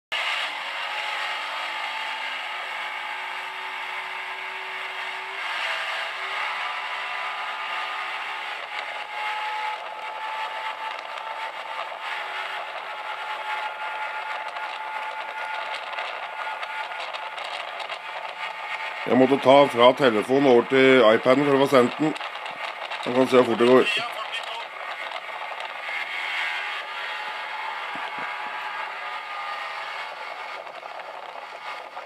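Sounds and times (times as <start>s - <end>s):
outboard motor drone: 0.2s - 32.0s.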